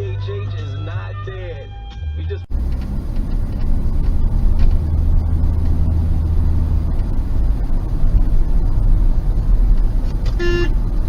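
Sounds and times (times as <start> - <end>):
car road and engine rumble: 2.0 - 11.0.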